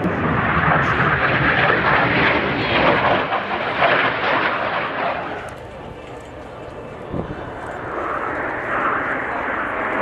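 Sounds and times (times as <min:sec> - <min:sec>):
aircraft engine rushing overhead: 0:00.0 - 0:10.0.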